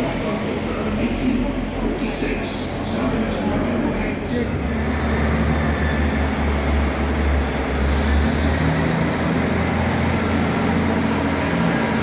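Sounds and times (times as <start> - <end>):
train engine hum: 0.0 - 12.0.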